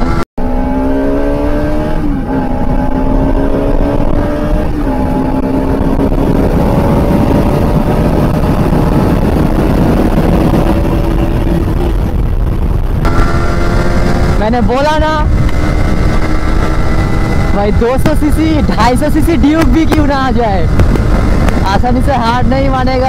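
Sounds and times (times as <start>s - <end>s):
motorcycle engine accelerating: 0.0s - 23.0s
wind rumbling on microphone: 0.0s - 23.0s.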